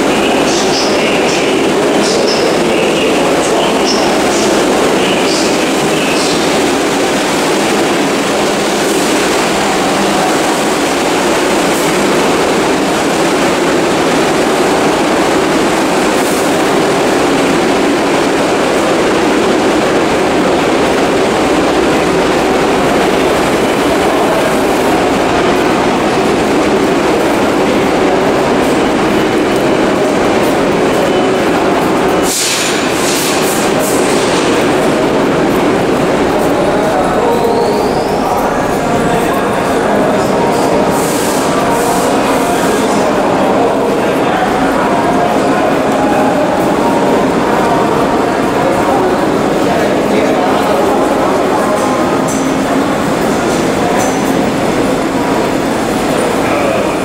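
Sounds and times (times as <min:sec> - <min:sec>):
subway wheels rumbling on rails: 0:00.0 - 0:57.0.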